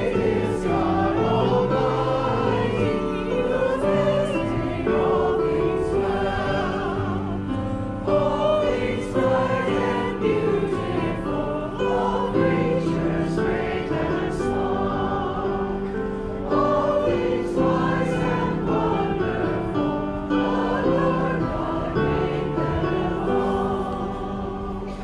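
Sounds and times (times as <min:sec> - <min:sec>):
congregation singing a hymn: 0:00.0 - 0:25.0.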